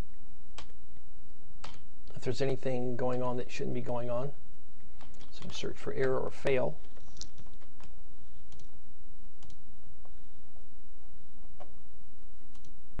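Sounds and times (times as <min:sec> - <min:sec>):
background hiss and low hum: 0:00.0 - 0:13.0.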